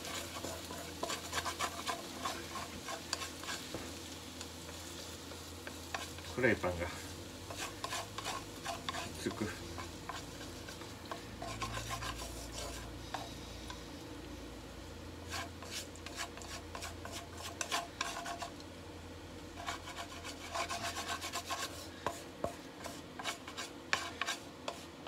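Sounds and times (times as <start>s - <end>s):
rasping scrapes in frying pan: 0.0s - 14.0s, 15.2s - 18.6s, 19.5s - 25.0s.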